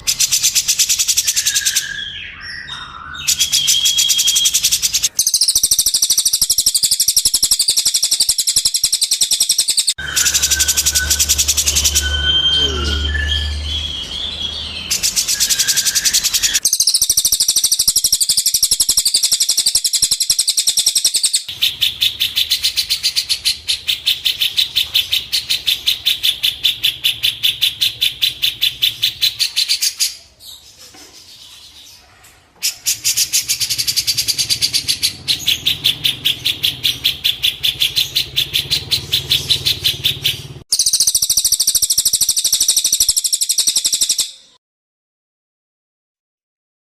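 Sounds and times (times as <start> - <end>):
songbird chattering trill: 0.0 - 30.3, 32.6 - 44.6.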